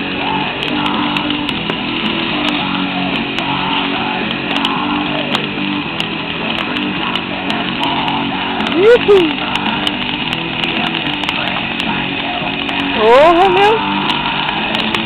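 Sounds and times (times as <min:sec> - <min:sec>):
bonfire roaring: 0:00.0 - 0:15.0
fire crackling pops: 0:00.0 - 0:15.0.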